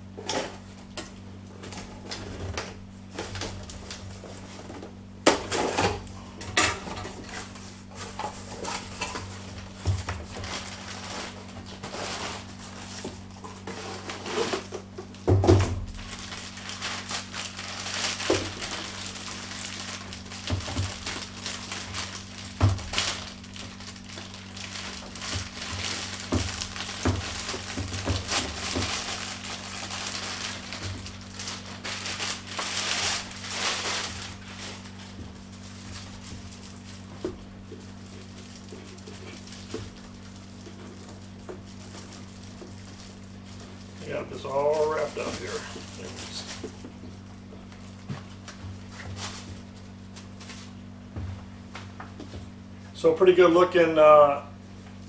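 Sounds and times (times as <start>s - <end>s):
packaging crinkling and rustling: 1.6s - 6.2s, 6.8s - 50.9s.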